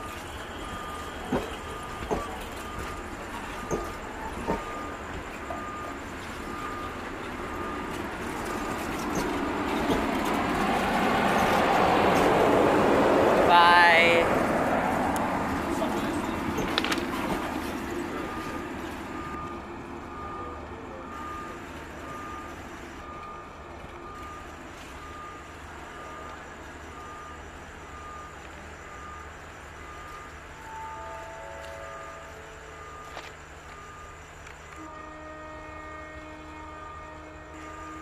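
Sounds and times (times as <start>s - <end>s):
train rumbling over rails: 0.0s - 38.0s.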